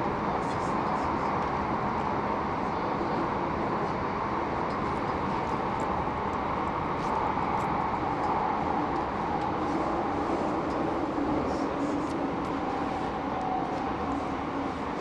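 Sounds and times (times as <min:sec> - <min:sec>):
train carriage interior noise: 0:00.0 - 0:15.0.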